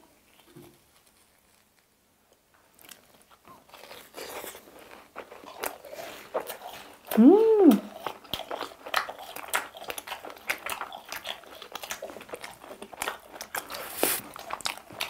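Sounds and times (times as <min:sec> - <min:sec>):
people chewing crunchy food: 0:00.0 - 0:15.0.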